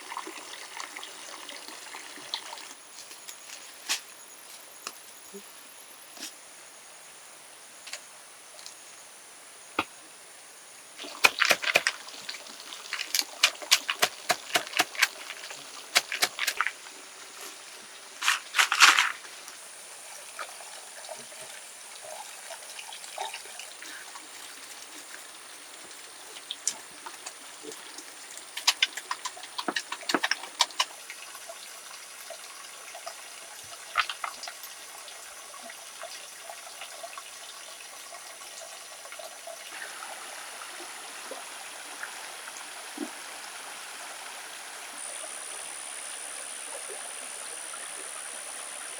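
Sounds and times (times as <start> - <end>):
water splashing and trickling: 0.0 - 4.6, 11.0 - 48.9.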